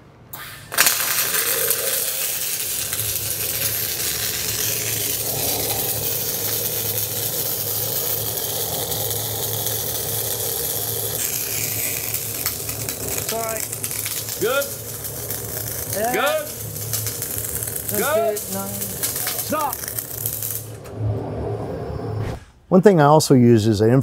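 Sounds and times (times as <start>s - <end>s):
welding arc crackling hiss: 0.3s - 20.9s.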